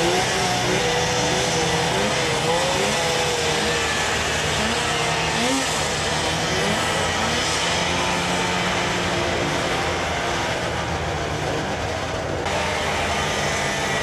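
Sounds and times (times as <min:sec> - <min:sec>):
snowmobile engines droning: 0:00.0 - 0:14.0.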